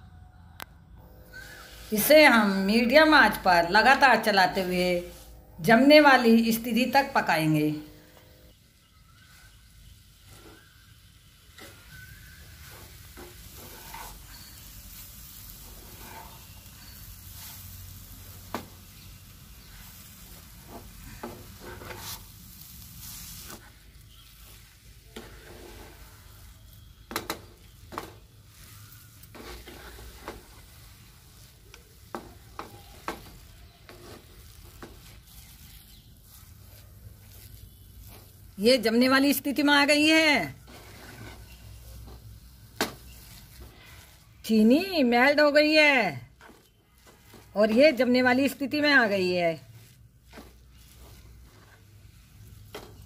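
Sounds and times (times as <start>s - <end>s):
faint sizzle: 0.0s - 53.0s
wooden spatula scraping a pan: 1.3s - 53.0s.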